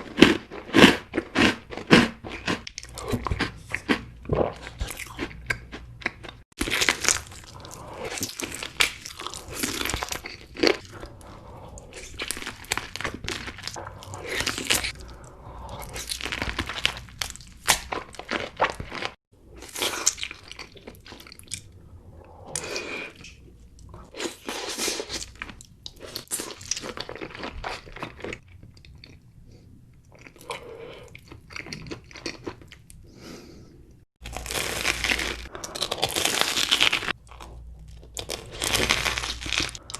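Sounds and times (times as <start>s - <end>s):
person chewing crunchy food: 0.0s - 21.7s, 22.5s - 29.2s, 30.1s - 33.0s, 34.2s - 39.9s.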